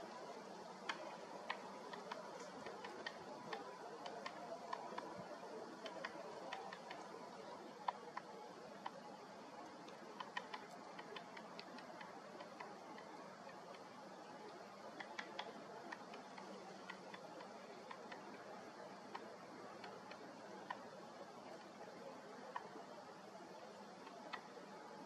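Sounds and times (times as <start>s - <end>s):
woodpecker pecking: 0.0s - 24.8s.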